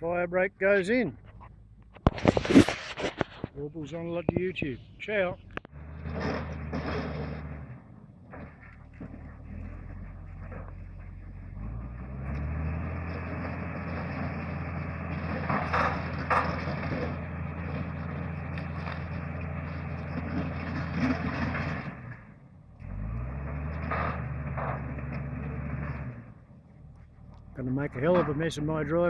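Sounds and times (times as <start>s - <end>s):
bulldozer diesel engine revving: 0.0s - 29.0s.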